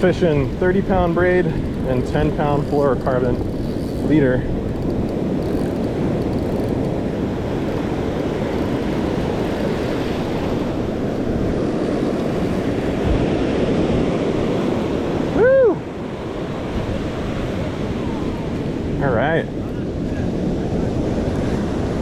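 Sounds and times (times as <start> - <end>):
ocean surf washing ashore: 0.0 - 22.0
wind buffeting microphone: 0.0 - 22.0.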